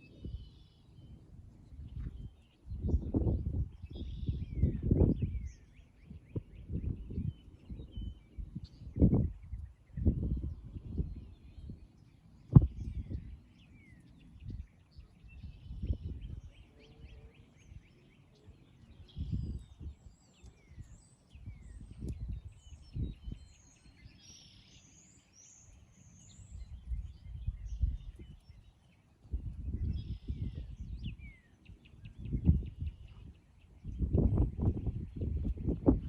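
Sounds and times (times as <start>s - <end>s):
birds chirping faintly: 0.0s - 36.0s.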